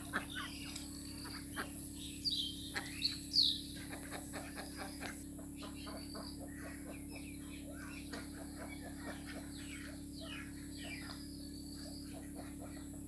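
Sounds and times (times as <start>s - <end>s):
ducks quacking: 0.0s - 13.0s
steady background hum: 0.0s - 13.0s.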